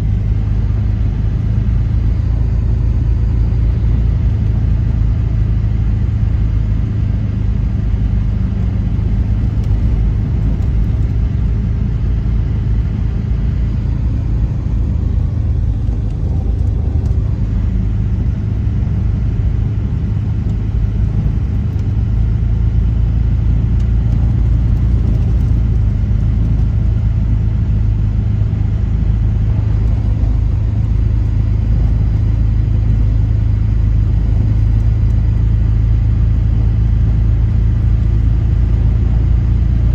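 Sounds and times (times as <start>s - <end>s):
road rumble: 0.0s - 39.9s
vehicle engine drone inside cabin: 0.0s - 39.9s.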